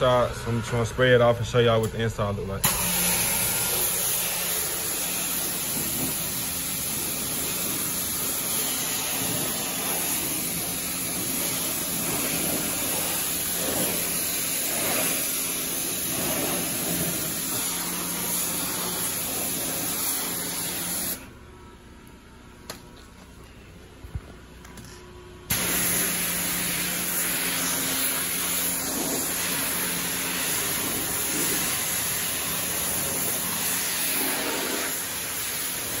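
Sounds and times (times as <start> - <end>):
pressure washer spraying water: 2.6 - 21.3, 25.5 - 36.0.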